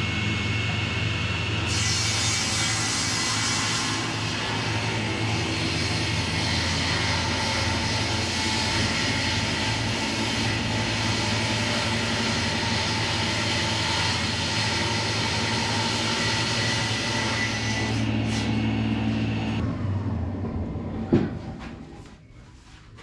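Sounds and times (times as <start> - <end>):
motor humming: 0.0 - 21.2.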